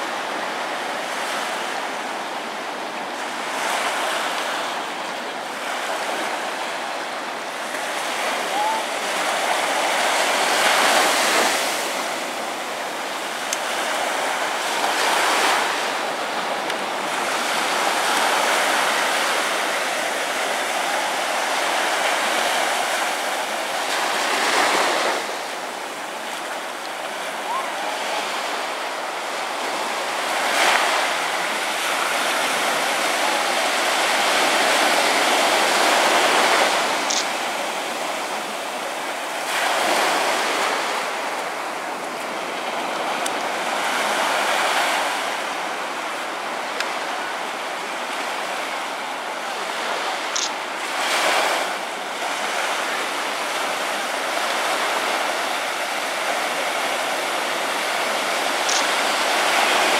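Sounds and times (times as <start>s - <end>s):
ocean surf on beach: 0.0s - 59.9s.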